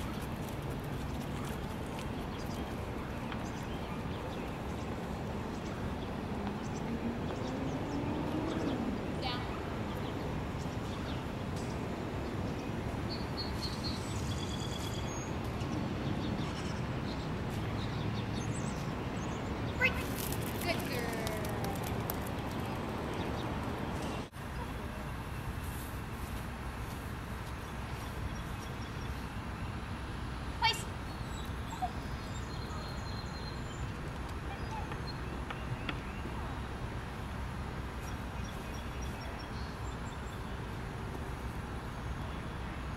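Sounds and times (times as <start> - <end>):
low rumble of distant traffic: 0.0 - 42.9.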